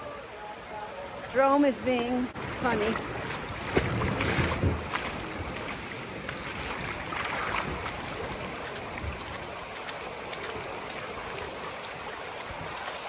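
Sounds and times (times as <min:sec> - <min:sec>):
floodwater rushing: 0:00.0 - 0:13.0
water splashes: 0:00.0 - 0:13.0.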